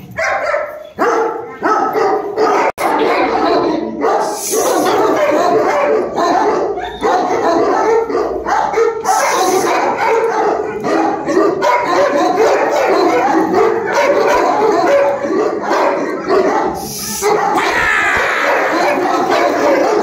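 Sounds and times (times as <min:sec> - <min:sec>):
dogs barking and yelping: 0:00.0 - 0:20.0.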